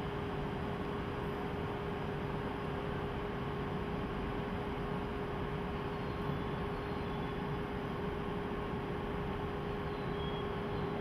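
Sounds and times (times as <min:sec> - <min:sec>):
constant mid-pitched hum: 0:00.0 - 0:11.0.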